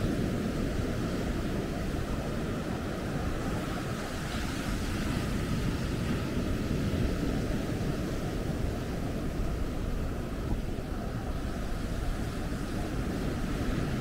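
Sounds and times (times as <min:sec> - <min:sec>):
ocean surf: 0:00.0 - 0:14.0.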